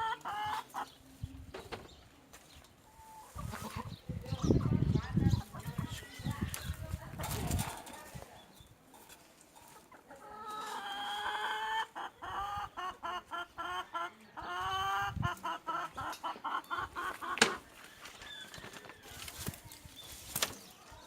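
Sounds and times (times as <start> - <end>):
chicken clucking: 0.0 - 19.9.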